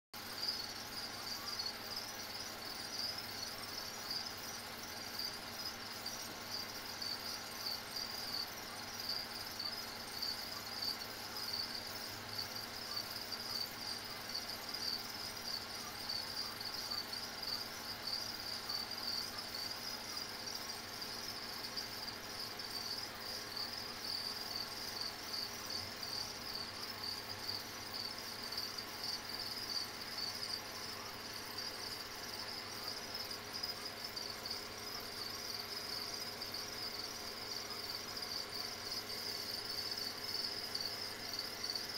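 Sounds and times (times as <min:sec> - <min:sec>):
crickets chirring: 0:00.2 - 0:41.9.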